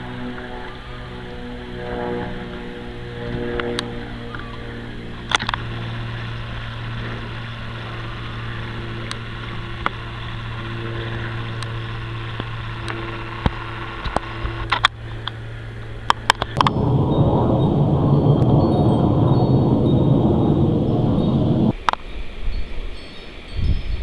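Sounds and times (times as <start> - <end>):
aircraft drone overhead: 0.0 - 21.8.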